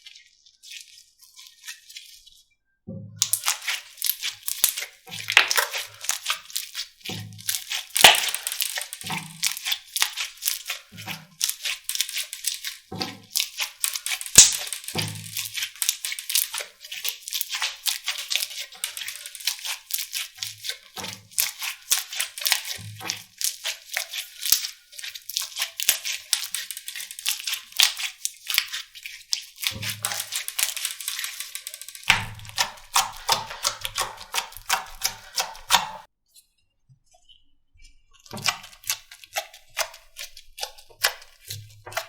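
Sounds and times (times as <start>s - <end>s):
slime crackling and popping: 3.2s - 36.1s, 38.3s - 42.0s.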